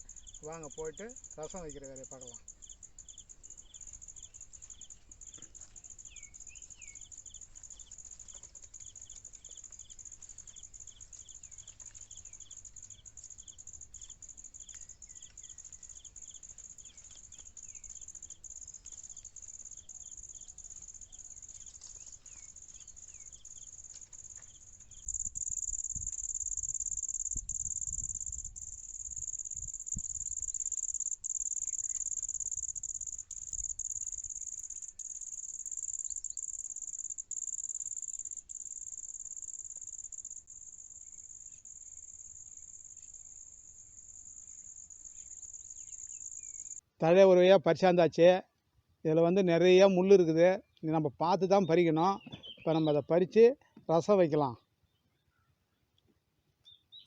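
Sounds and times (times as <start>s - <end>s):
insects chirring drone: 0.0s - 46.8s.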